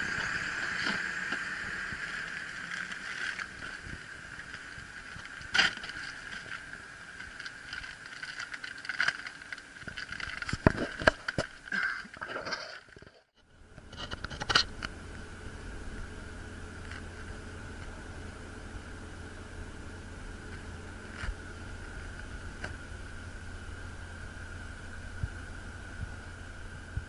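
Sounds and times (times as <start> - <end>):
low hum: 0.0 - 27.0
steady background noise: 0.0 - 27.0.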